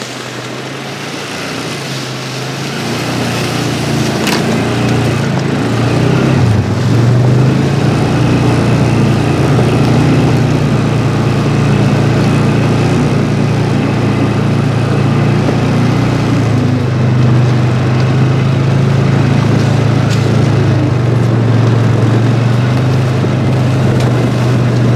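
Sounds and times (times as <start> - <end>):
small vehicle engine humming: 0.0 - 24.9.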